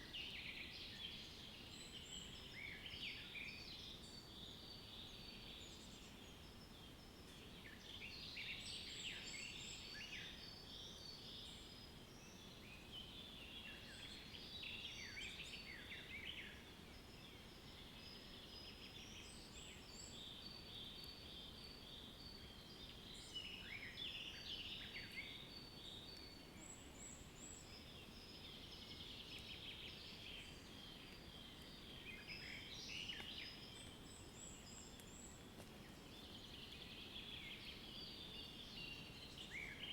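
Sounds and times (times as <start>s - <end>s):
low steady background hiss: 0.0s - 39.9s
small birds chirping and trilling: 0.2s - 39.9s.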